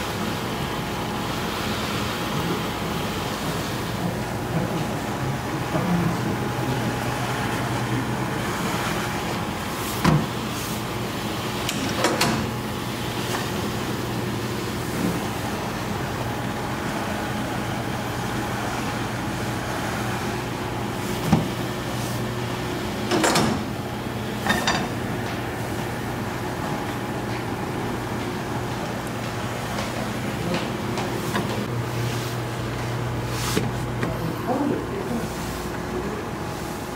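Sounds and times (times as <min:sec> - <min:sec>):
dough sheeting machine humming: 0:00.0 - 0:36.9.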